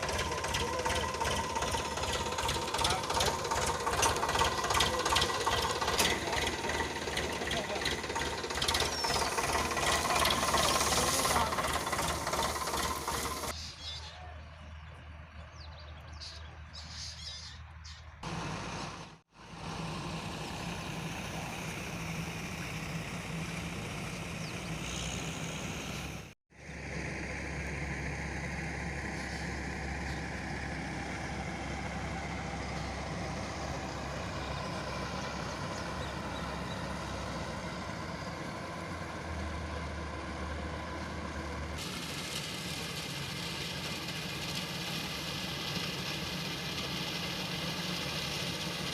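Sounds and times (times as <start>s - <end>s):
tractor engine humming: 0.0s - 13.6s, 18.2s - 48.9s.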